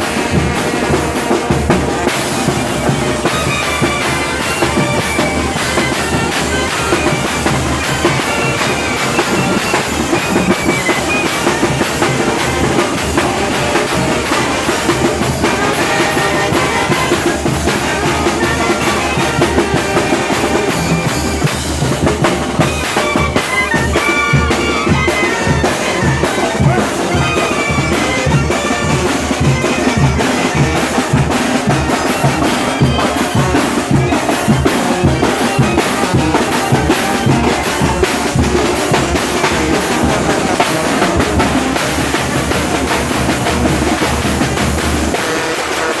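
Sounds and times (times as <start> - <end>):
drums keeping steady beat: 0.0 - 46.0
wind instrument melody: 0.0 - 46.0.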